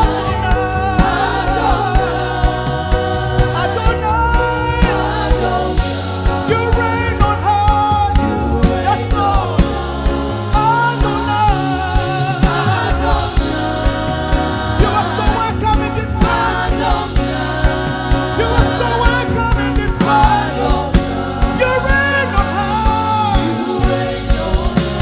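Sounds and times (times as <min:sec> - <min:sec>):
gospel band playing: 0:00.0 - 0:25.0
people singing: 0:00.0 - 0:25.0.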